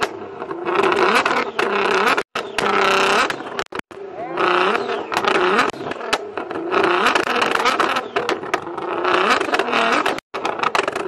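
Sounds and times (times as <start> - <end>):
car engine revving: 0.0 - 11.0
exhaust pops and crackles: 0.0 - 11.0.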